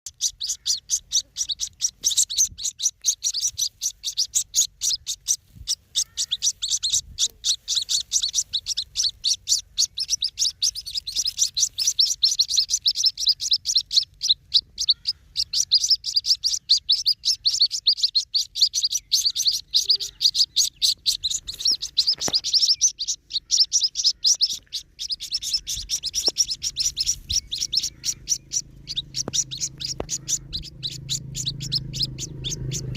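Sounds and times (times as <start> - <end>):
chicks cheeping: 0.1 - 32.9.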